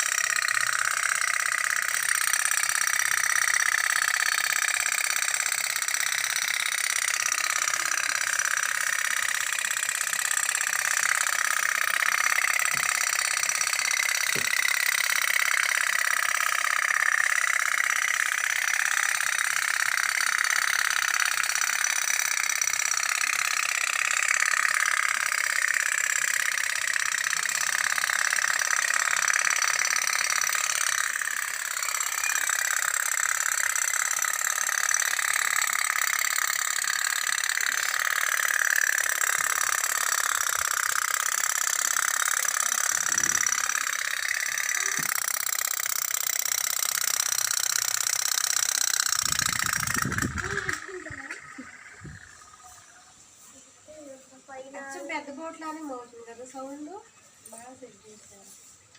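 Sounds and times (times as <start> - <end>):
toy steam boat puttering: 0.0 - 53.1.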